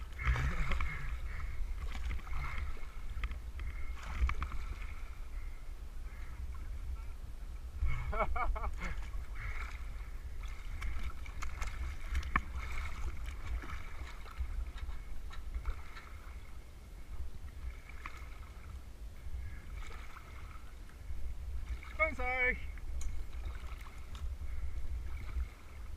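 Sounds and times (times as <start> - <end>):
steady low rumble: 0.0 - 21.9, 22.6 - 25.9
water lapping and splashing: 0.0 - 25.9.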